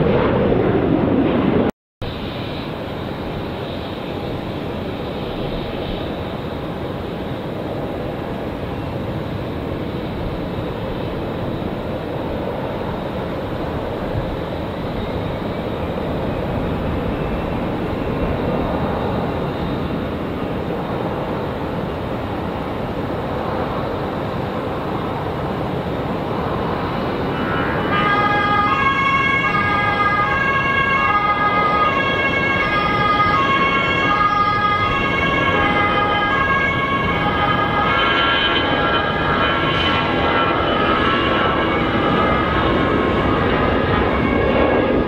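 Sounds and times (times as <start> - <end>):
jet engines rushing: 0.0 - 45.0.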